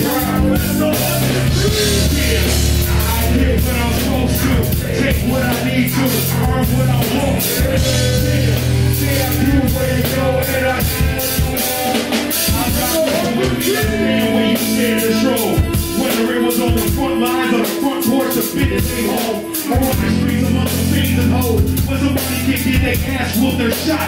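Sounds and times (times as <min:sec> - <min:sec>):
drum kit: 0:00.0 - 0:24.0
electric guitar: 0:00.0 - 0:24.0
person singing into a microphone: 0:00.0 - 0:24.0.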